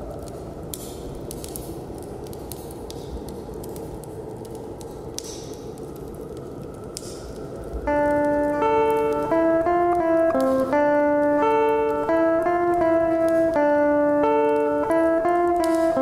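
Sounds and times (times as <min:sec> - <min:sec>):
crackles and clicks: 0:00.0 - 0:16.0
low rushing noise: 0:00.0 - 0:16.0.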